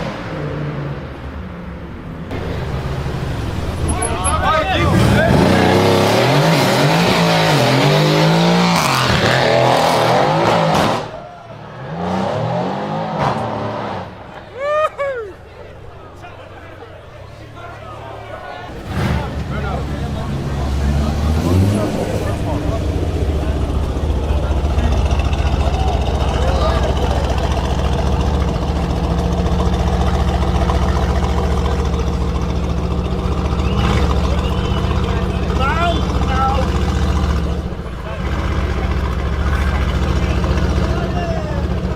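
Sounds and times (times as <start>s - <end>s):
car engine revving: 0.0s - 14.5s, 16.6s - 41.9s.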